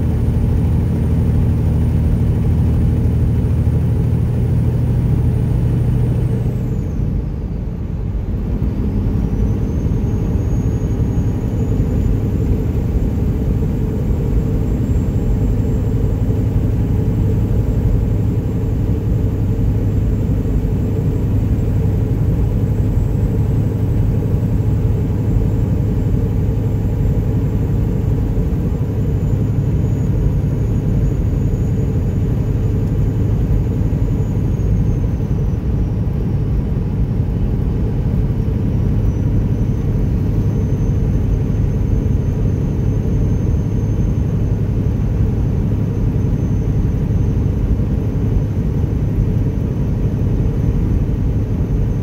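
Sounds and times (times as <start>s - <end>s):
diesel truck engine droning: 0.0s - 52.0s
road noise: 0.0s - 52.0s.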